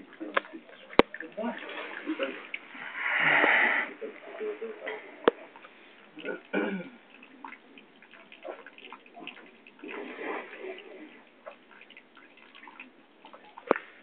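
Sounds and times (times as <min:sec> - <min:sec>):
urine trickling and dripping: 0:00.0 - 0:14.0.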